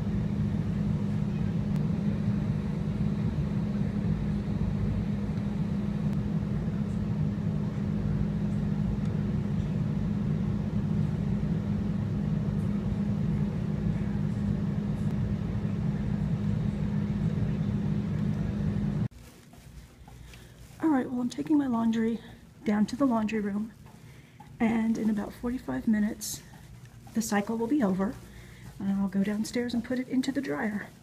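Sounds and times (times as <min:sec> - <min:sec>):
low rumble with hum: 0:00.0 - 0:31.0.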